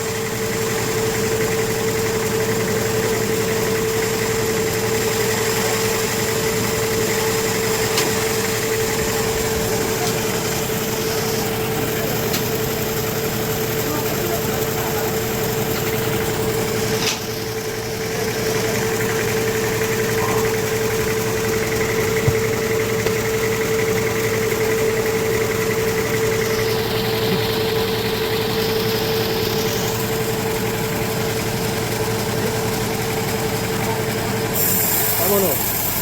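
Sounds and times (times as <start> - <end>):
sawmill machinery hum: 0.0 - 36.0.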